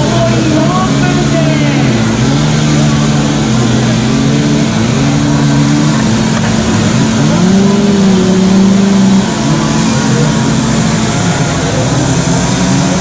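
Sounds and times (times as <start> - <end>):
chainsaws running: 0.6 - 13.0.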